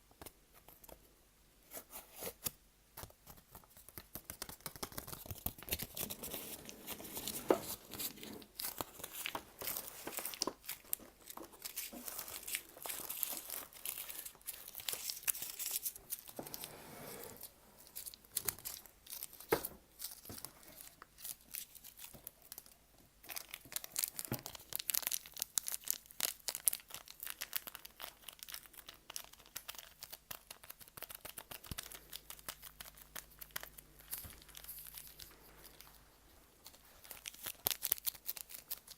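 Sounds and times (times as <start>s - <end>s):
crinkling and crumpling material: 0.2s - 38.9s.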